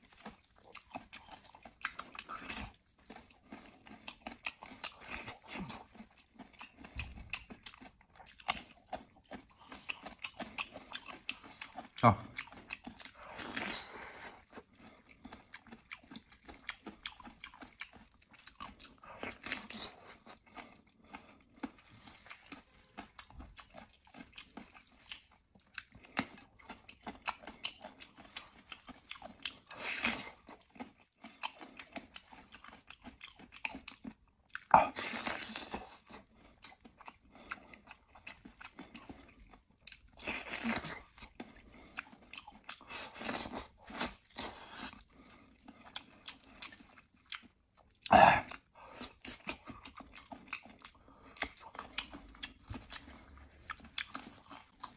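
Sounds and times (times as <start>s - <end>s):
person chewing meat off a bone: 0.0s - 54.9s.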